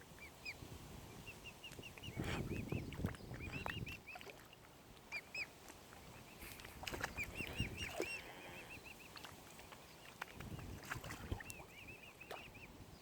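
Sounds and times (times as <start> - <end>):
swan cygnets peeping: 0.0 - 13.0.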